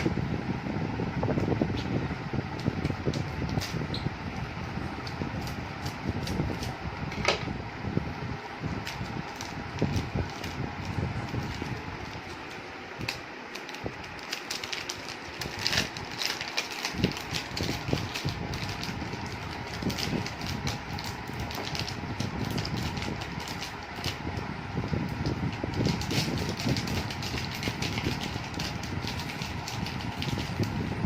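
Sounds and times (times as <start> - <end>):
plastic packaging crackling: 1.4 - 7.4, 8.6 - 31.0.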